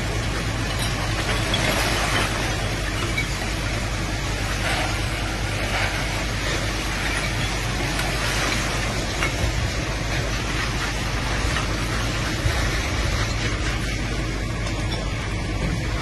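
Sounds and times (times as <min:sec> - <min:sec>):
fire hose spraying water: 0:00.0 - 0:16.0
low engine rumble: 0:00.0 - 0:16.0.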